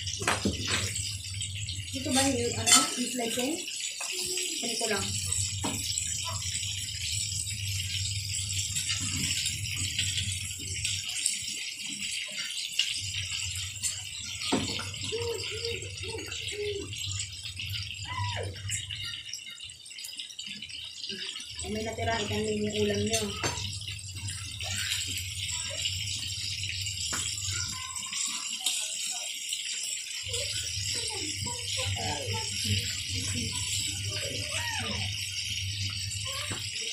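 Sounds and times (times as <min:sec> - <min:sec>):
oil sizzling and crackling: 0:00.0 - 0:36.9.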